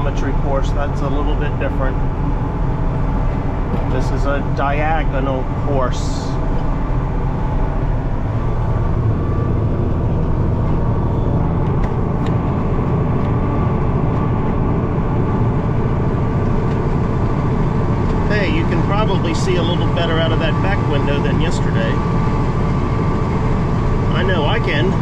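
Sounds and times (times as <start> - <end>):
tractor engine droning: 0.0 - 25.0.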